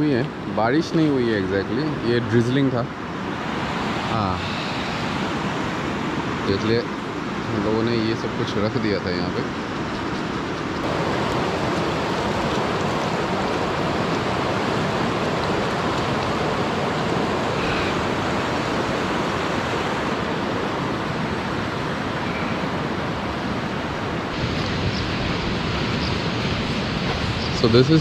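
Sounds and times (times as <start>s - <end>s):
river rushing: 0.0s - 28.0s.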